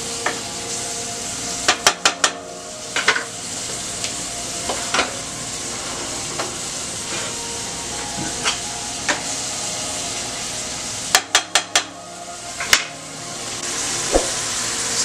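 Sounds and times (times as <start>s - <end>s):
seasoning sizzling in a pan: 0.0s - 15.0s.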